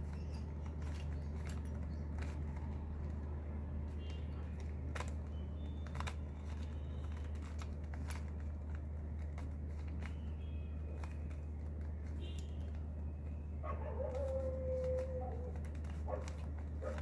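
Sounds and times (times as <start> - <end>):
puzzle cube layers clicking: 0.0 - 12.8, 14.0 - 17.0.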